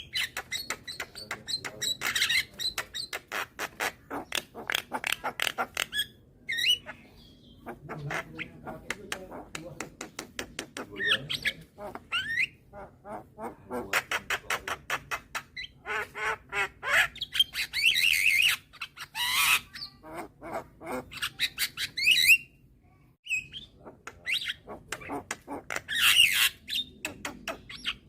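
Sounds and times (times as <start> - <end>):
myna bird calling: 0.0 - 22.6, 23.2 - 28.0.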